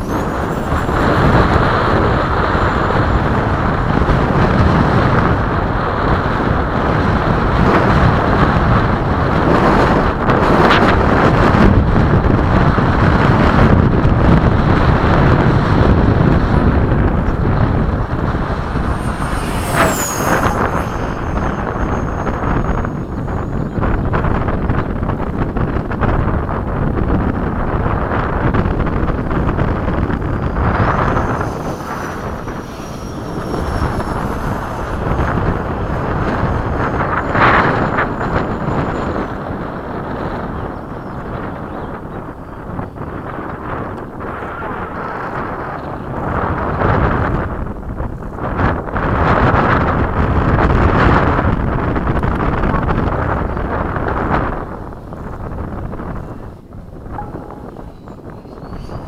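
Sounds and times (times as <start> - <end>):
model jet high whine: 0.0 - 59.0
wind buffeting microphone: 0.0 - 59.0.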